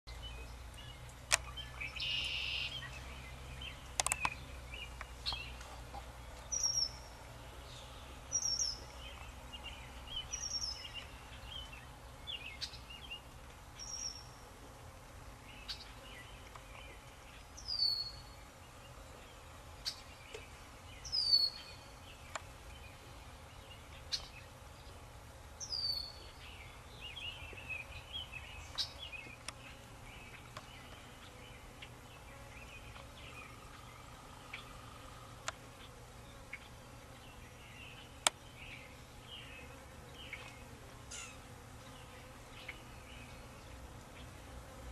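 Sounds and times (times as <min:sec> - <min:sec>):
soft bird chirps: 0:00.1 - 0:14.4, 0:15.5 - 0:18.4, 0:19.2 - 0:24.5, 0:25.6 - 0:44.4.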